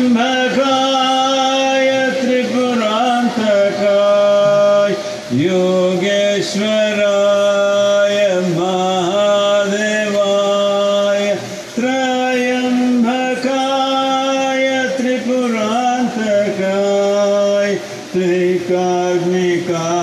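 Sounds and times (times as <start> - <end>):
man singing devotional chant: 0.0 - 20.0.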